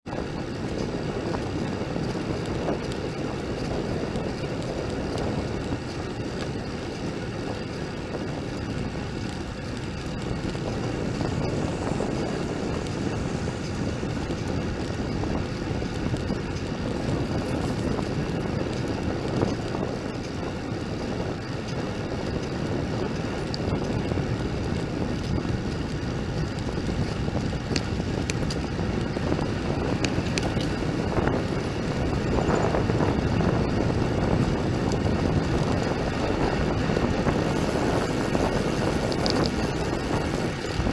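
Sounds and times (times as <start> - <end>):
bicycle tyre and road noise: 0.0 - 40.9
wind rush over microphone: 0.0 - 40.9.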